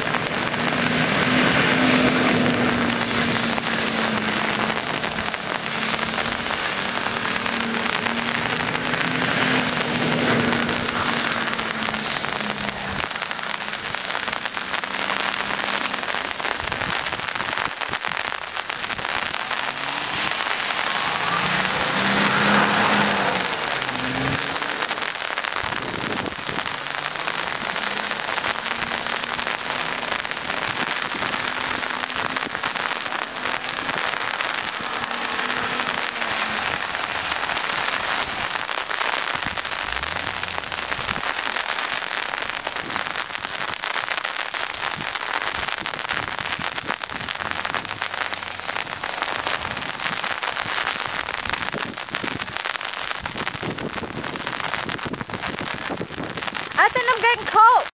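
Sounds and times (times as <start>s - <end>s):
car engine driving on snow: 0.0s - 57.5s
steady rain-like hiss: 0.0s - 57.9s.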